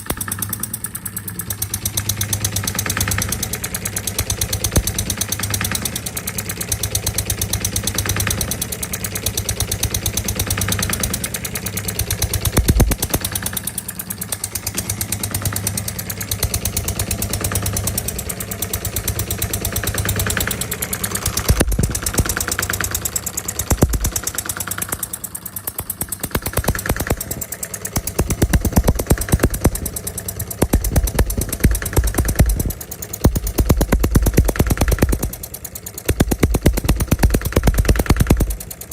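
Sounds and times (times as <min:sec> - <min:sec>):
small model diesel engine running: 0:00.0 - 0:38.9.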